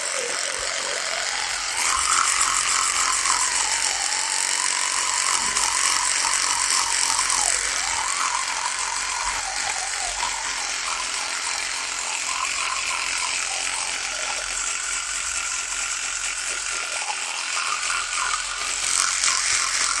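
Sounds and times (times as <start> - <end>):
electric toothbrush buzzing: 0.0 - 20.0.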